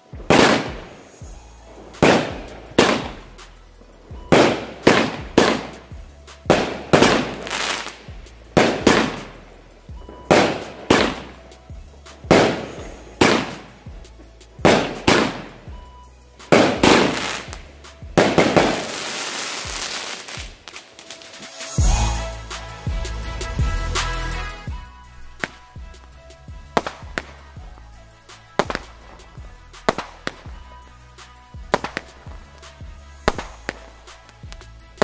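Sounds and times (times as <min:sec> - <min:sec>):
firework bangs: 0:00.0 - 0:14.0, 0:14.6 - 0:22.2, 0:25.4 - 0:30.7, 0:31.6 - 0:34.7
firework crackle: 0:00.0 - 0:23.3, 0:24.0 - 0:35.0.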